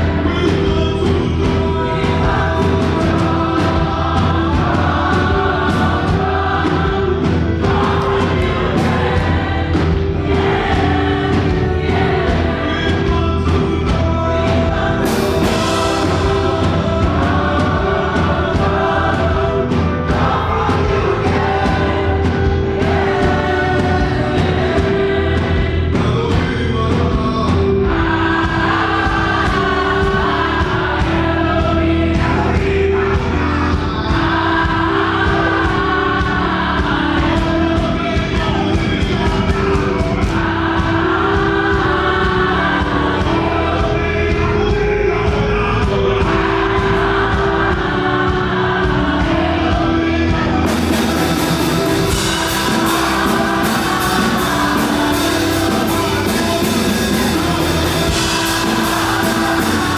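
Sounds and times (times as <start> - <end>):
band with drums: 0.0 - 59.9
group singing gospel: 0.0 - 59.9.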